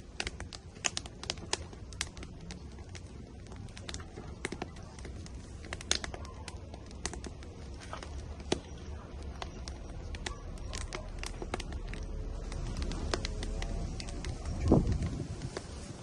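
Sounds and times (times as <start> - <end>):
firewood crackling and popping: 0.0 - 16.0
low steady rumble: 0.0 - 16.0.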